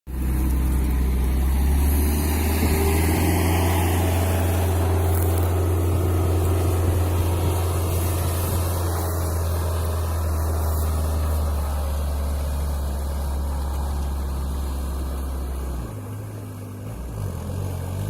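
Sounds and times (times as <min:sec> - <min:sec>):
vehicle engine running: 0:00.1 - 0:18.0.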